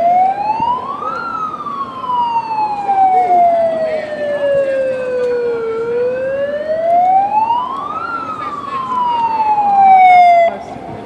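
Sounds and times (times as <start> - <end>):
siren wailing: 0.0 - 10.9.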